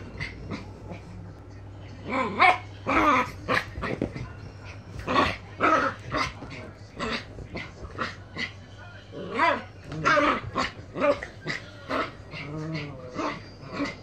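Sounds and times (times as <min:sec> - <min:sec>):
dogs growling and barking: 0:00.0 - 0:01.4, 0:02.0 - 0:14.0.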